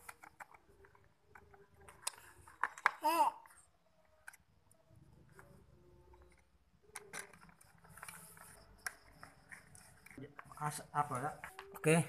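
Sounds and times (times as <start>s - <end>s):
faint clicks and taps: 0.0s - 10.7s, 11.4s - 11.8s.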